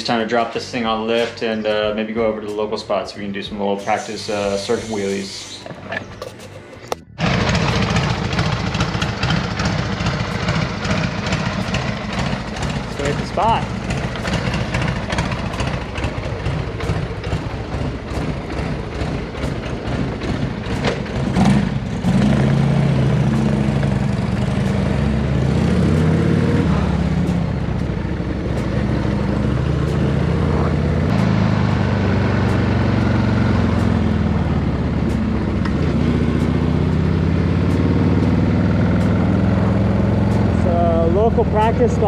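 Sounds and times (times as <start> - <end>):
motorcycle engine revving: 3.3 - 42.0.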